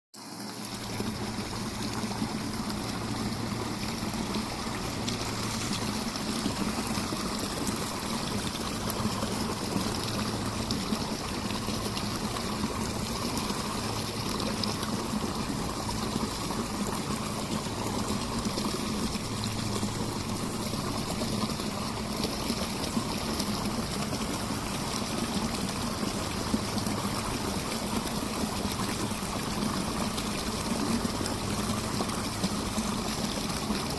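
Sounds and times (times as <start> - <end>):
stream flowing: 0.2 - 33.9.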